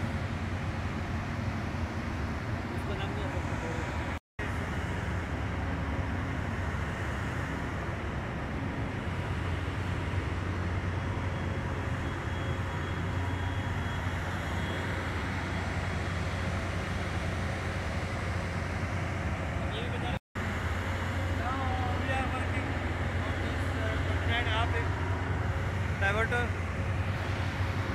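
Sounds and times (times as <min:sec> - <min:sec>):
drilling rig machinery drone: 0:00.0 - 0:27.9.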